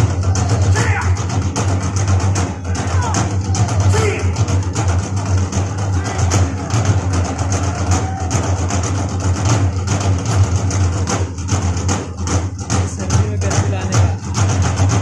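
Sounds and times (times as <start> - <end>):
barrel drums beaten in quick rhythm: 0.0 - 15.0.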